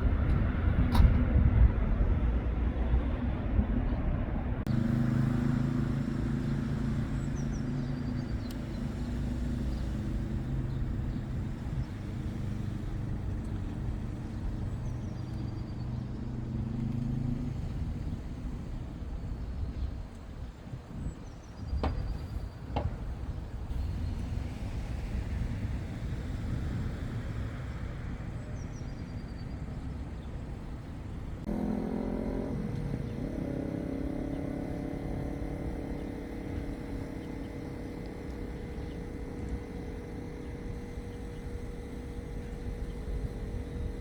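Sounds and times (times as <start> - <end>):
nearby vehicle engine hum: 0.0 - 44.0
street traffic rumble: 0.0 - 44.0.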